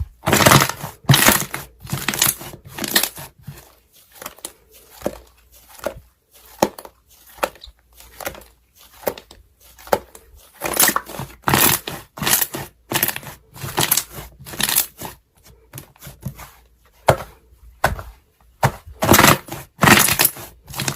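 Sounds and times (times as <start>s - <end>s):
slime squelching by hand: 0.0s - 20.9s.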